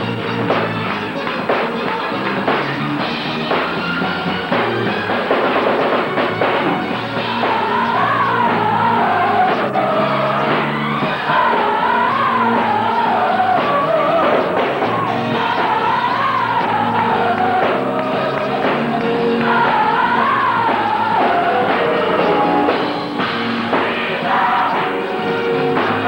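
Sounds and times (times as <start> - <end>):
instrumental accompaniment: 0.0 - 26.0
gospel choir singing: 3.5 - 26.0.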